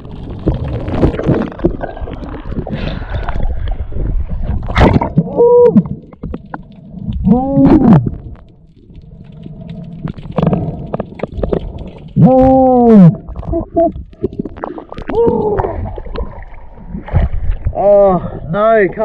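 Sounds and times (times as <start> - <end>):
water sloshing and splashing: 0.0 - 12.3, 13.0 - 19.0.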